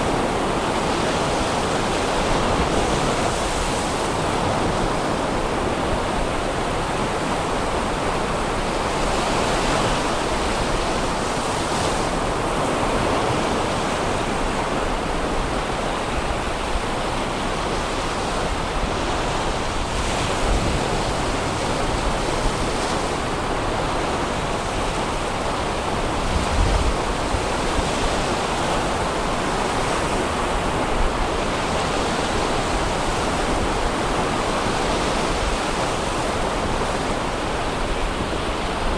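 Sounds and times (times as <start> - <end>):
surf breaking on beach: 0.0 - 38.9
wind buffeting microphone: 0.0 - 38.9.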